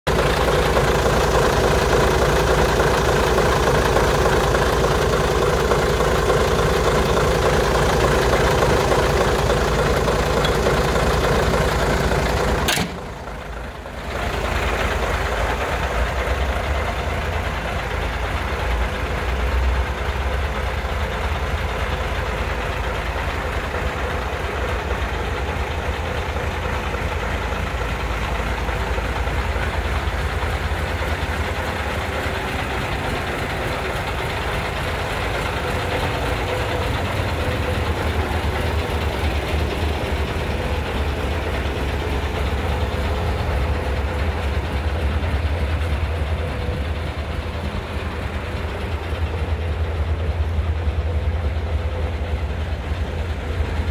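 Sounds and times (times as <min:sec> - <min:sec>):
diesel engine idling: 0:00.1 - 0:53.9.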